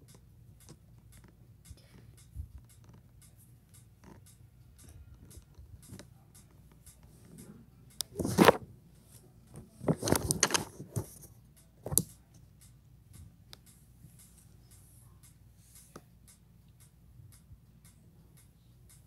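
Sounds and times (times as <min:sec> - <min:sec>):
faint steady ticking: 0:00.0 - 0:19.0.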